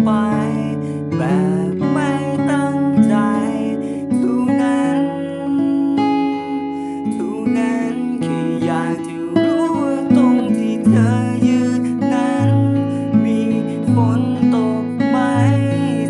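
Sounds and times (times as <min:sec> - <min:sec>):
acoustic guitar strummed and plucked: 0:00.0 - 0:16.0.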